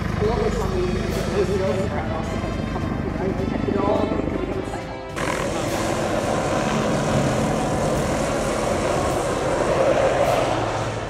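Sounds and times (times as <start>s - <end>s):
helicopter flying low overhead: 0.0s - 11.0s.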